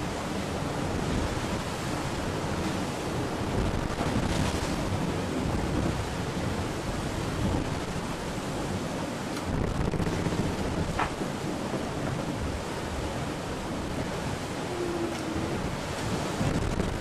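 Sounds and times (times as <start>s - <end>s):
rushing water: 0.0s - 17.0s
wind: 0.0s - 17.0s.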